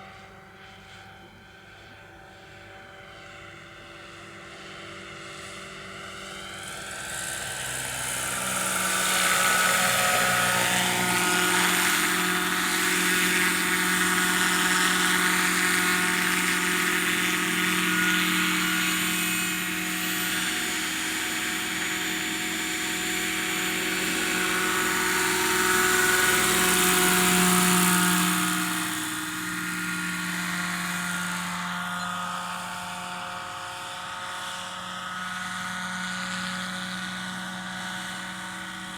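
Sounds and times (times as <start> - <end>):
model helicopter rotor and engine: 0.0 - 38.9.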